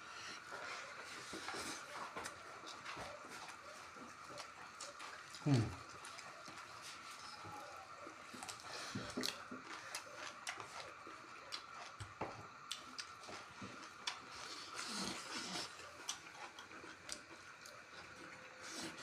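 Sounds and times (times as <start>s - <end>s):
chewing and lip smacks: 0.5s - 19.0s.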